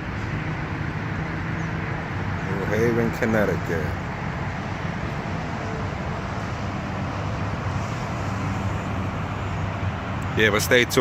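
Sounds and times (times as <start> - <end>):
low engine hum: 0.0 - 11.0
traffic noise: 0.0 - 11.0.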